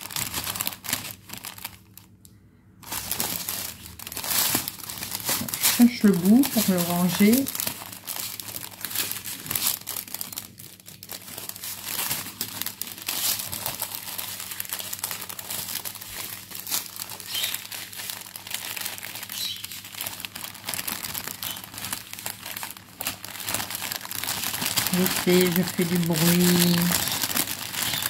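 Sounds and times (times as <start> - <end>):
plastic packaging crinkling: 0.0 - 28.0.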